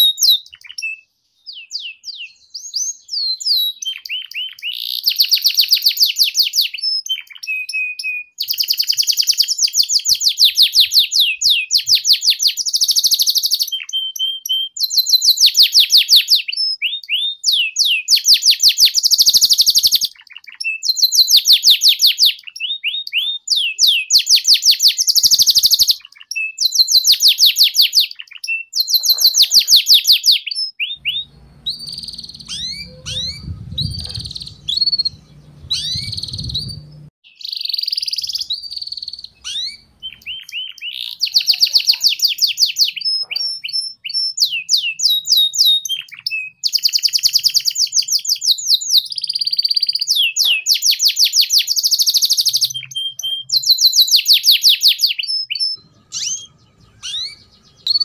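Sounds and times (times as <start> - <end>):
canary singing fast trills: 0.0 - 58.0.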